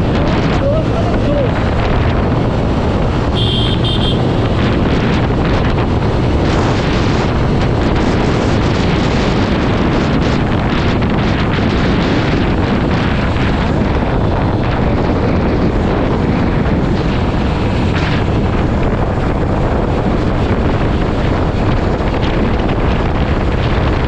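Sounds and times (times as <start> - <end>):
motorcycle engine and road rumble: 0.0 - 24.0
wind blasting microphone: 0.0 - 24.0.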